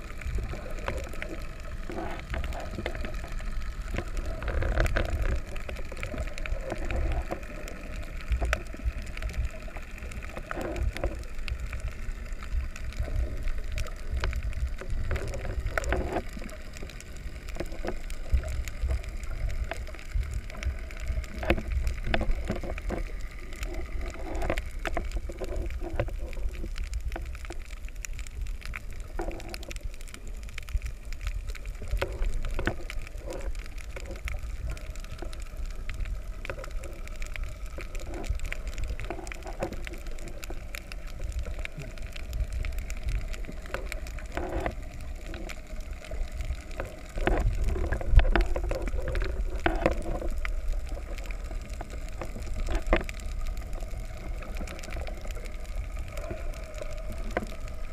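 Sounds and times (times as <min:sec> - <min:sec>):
small clicks and crackles: 0:00.0 - 0:57.9
underwater water rumble: 0:00.0 - 0:57.9.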